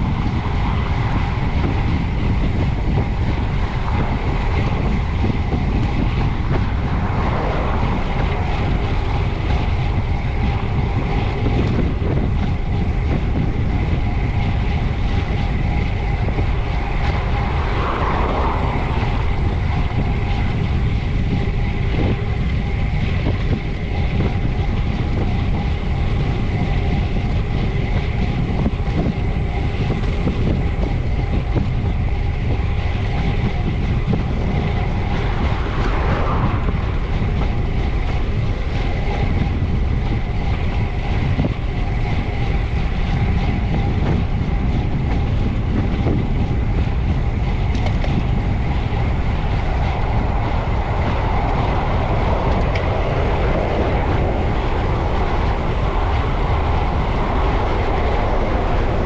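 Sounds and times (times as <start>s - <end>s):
bicycle tyre and road noise: 0.0s - 59.0s
wind rush on microphone: 0.0s - 59.0s.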